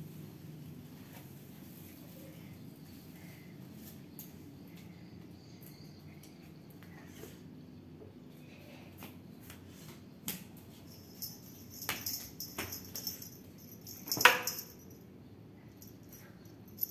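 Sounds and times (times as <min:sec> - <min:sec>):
low steady background noise: 0:00.0 - 0:16.9.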